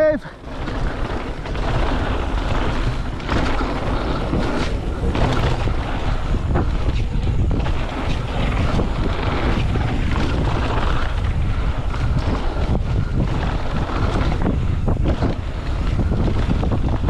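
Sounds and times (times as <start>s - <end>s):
bike knocks and rattles: 0.0s - 17.0s
low rumble: 0.0s - 17.0s
wind buffeting microphone: 0.0s - 17.0s.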